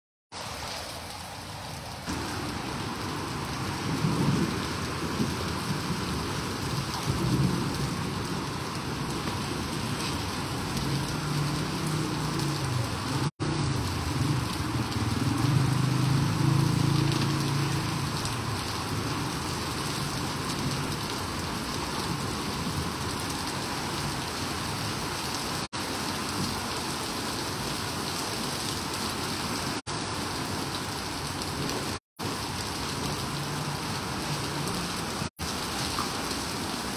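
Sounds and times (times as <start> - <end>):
heavy rain on street: 0.3 - 36.9.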